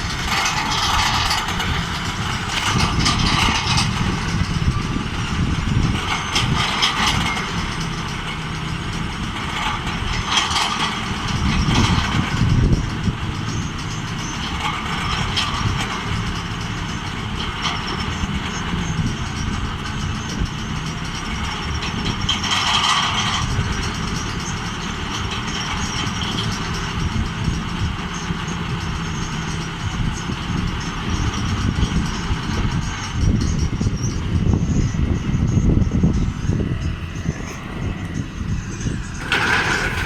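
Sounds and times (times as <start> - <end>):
drilling machine engine drone: 0.0 - 40.0
metallic rattles and knocks: 0.0 - 40.0.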